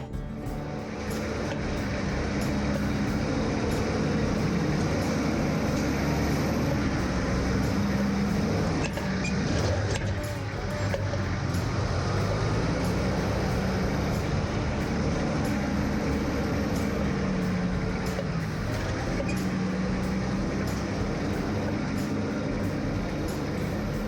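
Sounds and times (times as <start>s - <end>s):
engine running at low revs: 0.0s - 24.0s.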